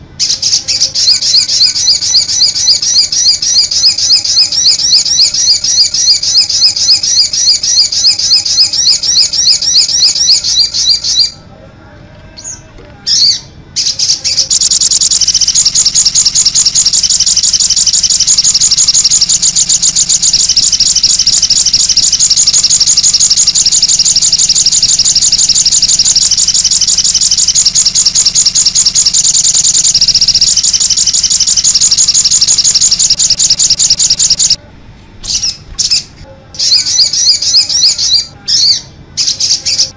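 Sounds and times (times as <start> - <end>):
bird chirping rapidly: 0.2 - 11.4, 12.4 - 34.6, 36.6 - 39.9.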